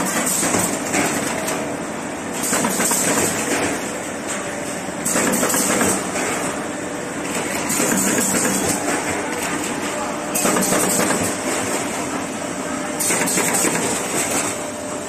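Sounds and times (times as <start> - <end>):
machine mechanical clatter: 0.0 - 1.7, 2.3 - 6.6, 7.2 - 12.0, 13.0 - 14.7.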